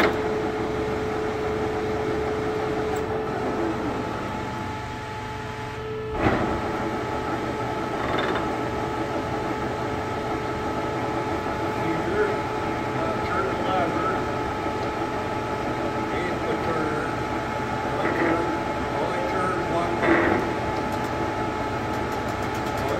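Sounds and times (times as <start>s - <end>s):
lathe humming and whining: 0.0s - 22.9s.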